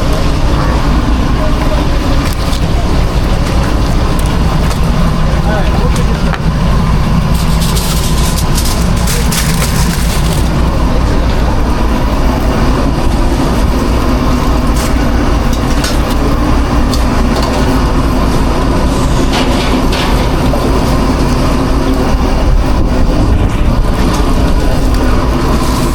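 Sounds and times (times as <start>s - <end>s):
low machinery drone: 0.0s - 25.9s.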